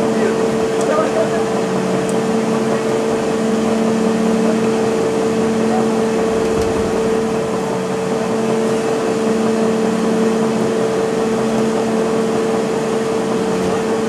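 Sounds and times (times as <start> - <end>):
chairlift machinery hum: 0.0 - 14.0
machinery whine: 0.0 - 14.0.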